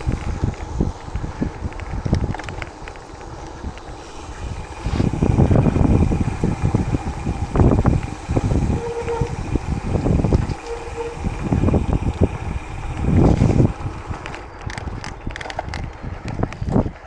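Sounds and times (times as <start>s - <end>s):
bike tyres and frame rattling: 0.0s - 17.0s
wind buffeting microphone: 0.0s - 17.0s.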